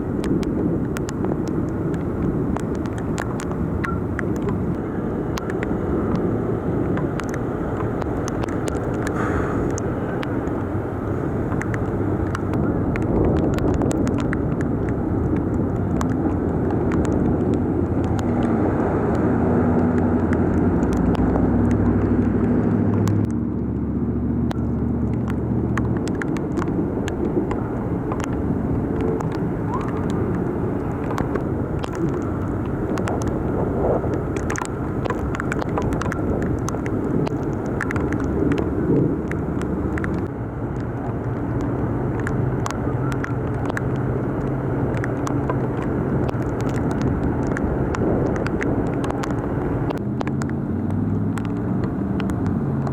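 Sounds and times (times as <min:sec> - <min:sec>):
torrential rain hiss: 0:00.0 - 0:21.8, 0:26.1 - 0:40.3, 0:40.9 - 0:50.0
raindrops ticking: 0:00.0 - 0:52.9.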